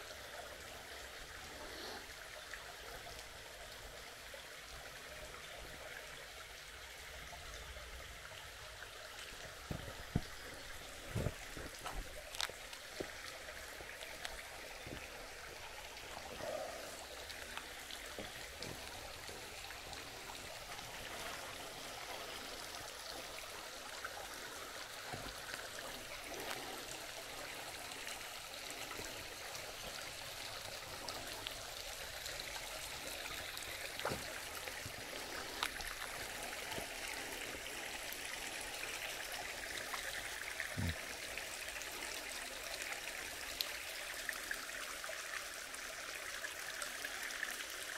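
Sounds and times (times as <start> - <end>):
creek water running over rocks: 0.0 - 47.9.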